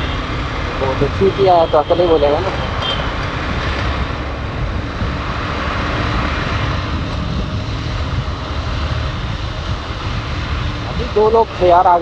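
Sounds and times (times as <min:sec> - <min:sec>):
motorcycle road noise: 0:00.0 - 0:12.0
wind rushing on microphone: 0:00.0 - 0:12.0.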